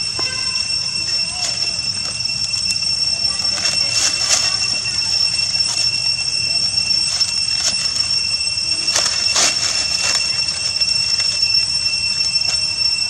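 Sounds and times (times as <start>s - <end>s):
high-pitched insect drone: 0.0s - 13.0s
scuffles in dry leaves: 0.0s - 13.0s.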